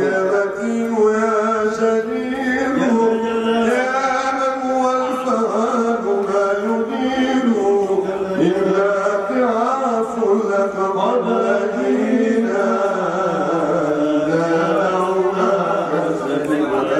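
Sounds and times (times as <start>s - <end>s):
man chanting into microphone: 0.0s - 16.9s.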